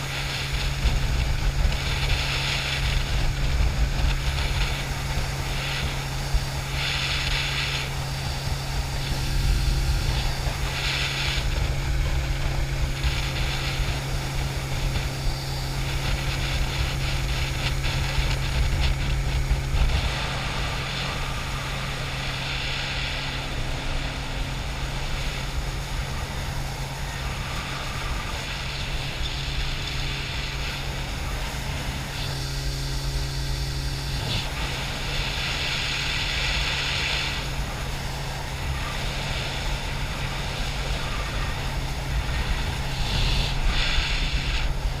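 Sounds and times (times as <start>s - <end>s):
boat engine low drone: 0.0s - 45.0s
hiss: 0.0s - 45.0s.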